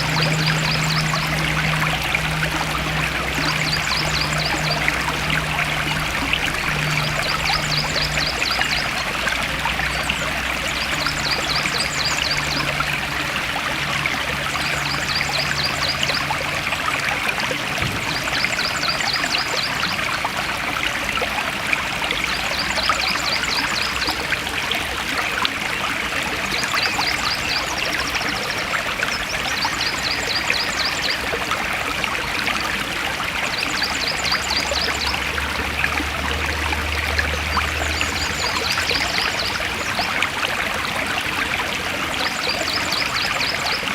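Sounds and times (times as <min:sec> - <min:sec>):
stream flowing and trickling: 0:00.0 - 0:43.9.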